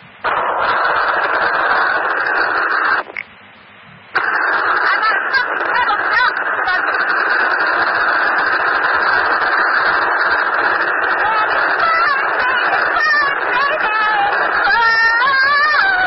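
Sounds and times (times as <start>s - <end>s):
radio static: 0.0s - 16.0s.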